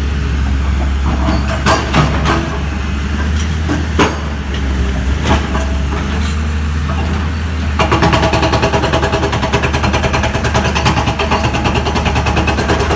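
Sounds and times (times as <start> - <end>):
heavy machinery engine hum: 0.0 - 12.9.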